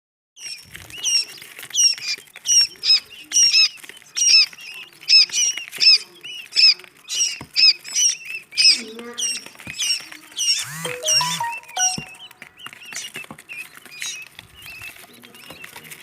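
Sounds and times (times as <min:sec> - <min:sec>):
quail chicks peeping: 0:00.4 - 0:16.0.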